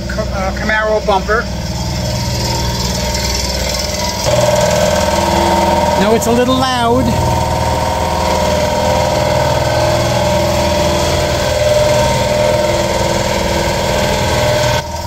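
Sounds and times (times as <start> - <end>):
machine humming steadily: 0.0 - 15.0.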